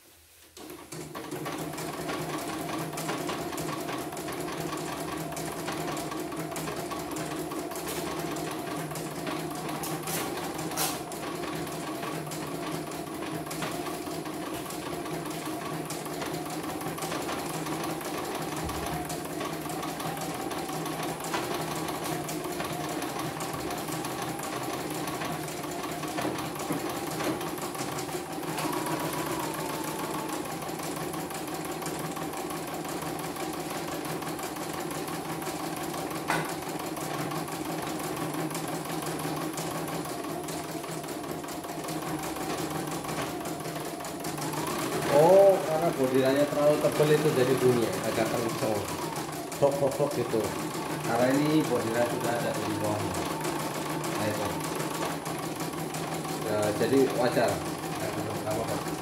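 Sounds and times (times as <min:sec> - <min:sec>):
embroidery machine stitching: 0:00.6 - 0:59.0.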